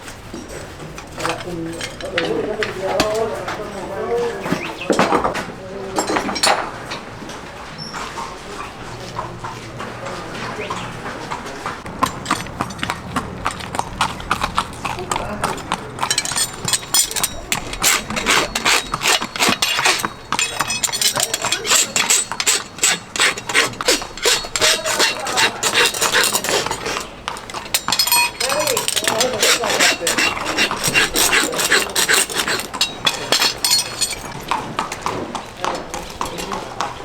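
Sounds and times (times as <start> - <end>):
horse hooves on hard floor: 0.0 - 37.0.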